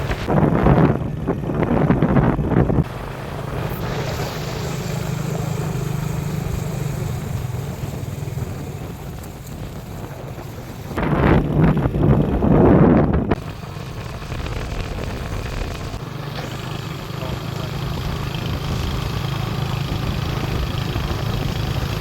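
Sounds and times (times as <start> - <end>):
wind rushing on the microphone: 0.0 - 16.0, 17.8 - 22.0
small engine running: 0.0 - 22.0.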